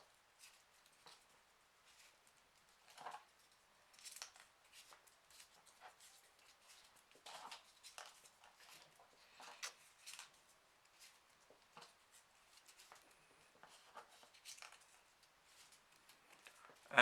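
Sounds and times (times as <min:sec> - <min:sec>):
paper rustling and crinkling: 0:00.1 - 0:16.8.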